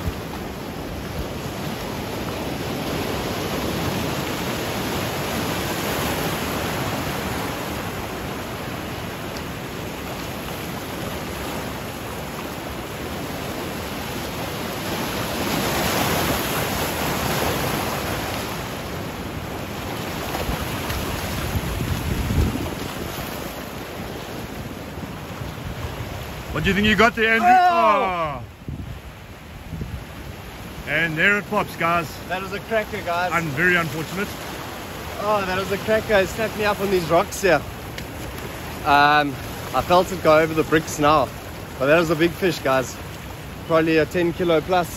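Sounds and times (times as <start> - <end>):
surf washing over rocks: 0.0 - 44.9.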